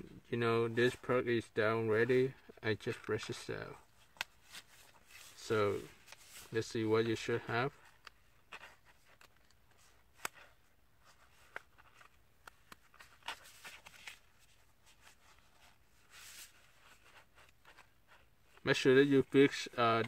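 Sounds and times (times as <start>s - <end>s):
paper rustle: 2.8s - 20.0s.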